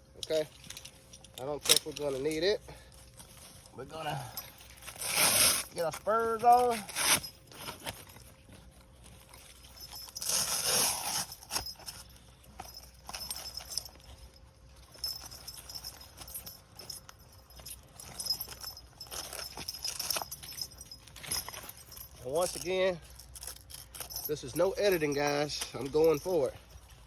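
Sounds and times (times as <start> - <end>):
metal clinks of climbing spurs: 0.2 - 8.2, 9.2 - 27.0
strap rustling: 0.2 - 27.0.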